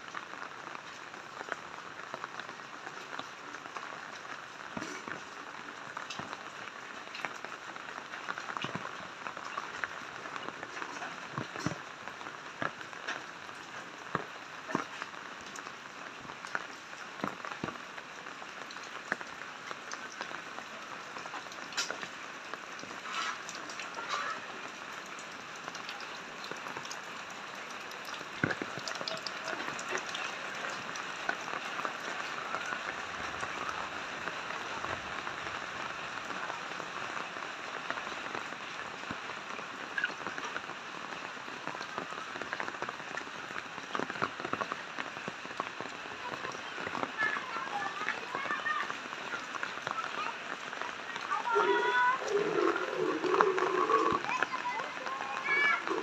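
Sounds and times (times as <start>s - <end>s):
raindrops ticking: 0.0s - 56.0s
steady rain: 0.0s - 56.0s.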